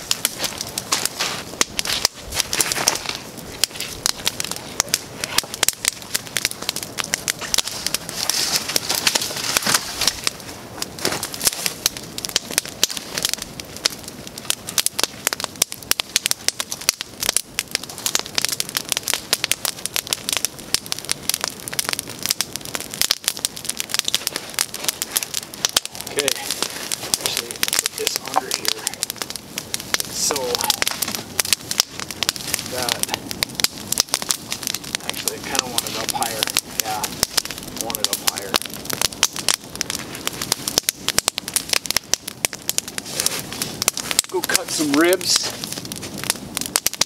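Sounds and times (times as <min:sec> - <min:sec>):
campfire crackling: 0:00.0 - 0:47.0.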